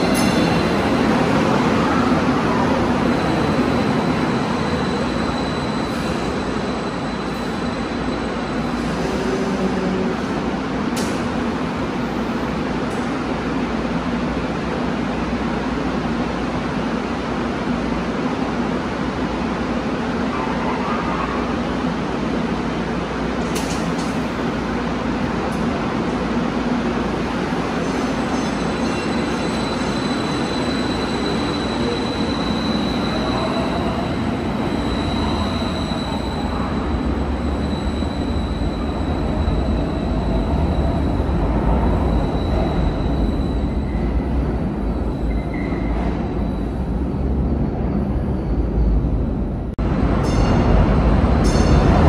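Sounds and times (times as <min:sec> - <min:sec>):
light rail train rumbling: 0:00.0 - 0:52.0.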